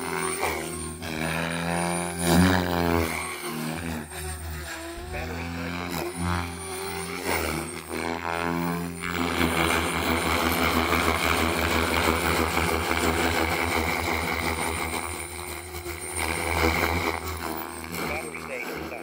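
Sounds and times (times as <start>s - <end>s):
helicopter rotor blade chop: 0.0s - 19.0s
high motor whine: 0.0s - 19.0s.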